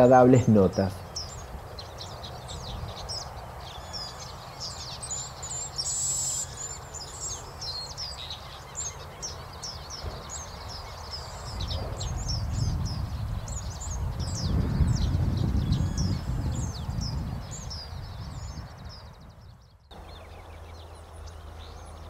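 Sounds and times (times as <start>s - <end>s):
birds singing high chirps: 0.0s - 22.0s.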